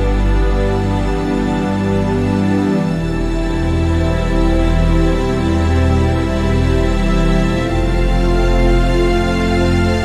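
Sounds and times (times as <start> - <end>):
slow sad new-age music: 0.0 - 10.0.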